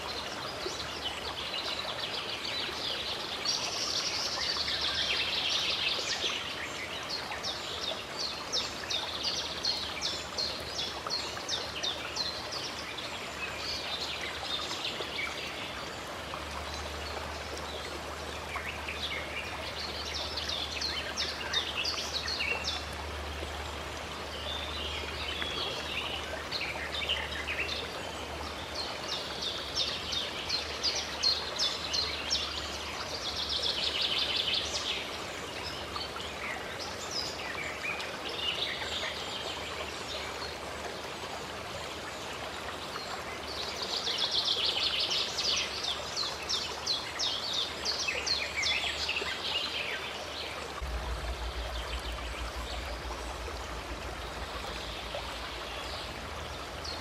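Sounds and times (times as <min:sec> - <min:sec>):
flowing stream: 0:00.0 - 0:57.0
songbirds chirping: 0:00.0 - 0:57.0.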